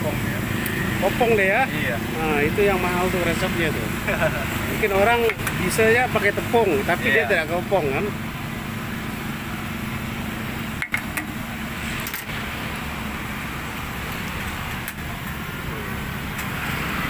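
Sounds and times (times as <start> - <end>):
low engine-like hum: 0.0 - 17.0.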